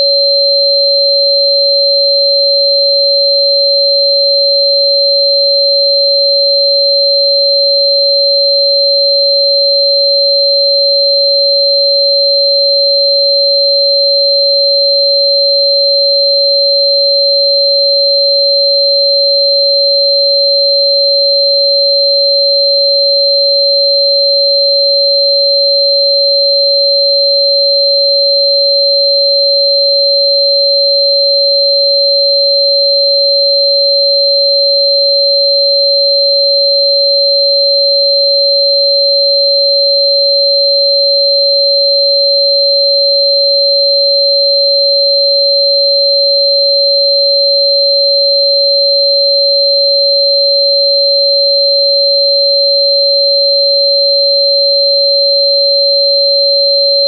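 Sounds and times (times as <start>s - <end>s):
steady sine tone: 0.0s - 57.0s.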